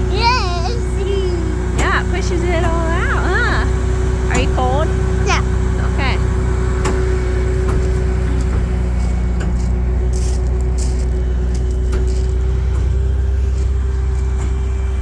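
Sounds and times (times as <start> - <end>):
truck engine running with a whine: 0.0 - 15.0.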